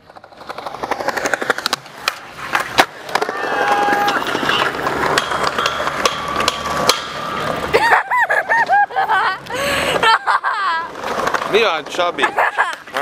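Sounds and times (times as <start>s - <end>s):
skateboard wheels rolling on paving: 0.0s - 13.0s.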